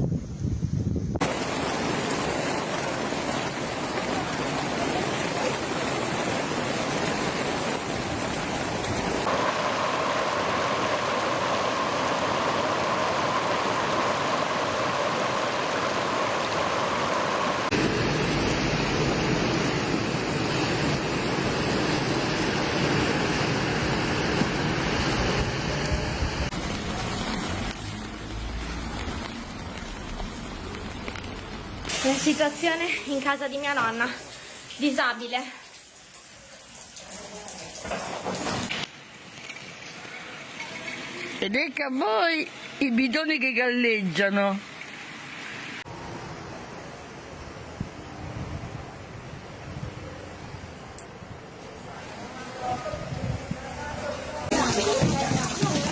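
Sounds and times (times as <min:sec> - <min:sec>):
floodwater rushing: 0:01.2 - 0:55.9
heavy rain: 0:01.2 - 0:55.9.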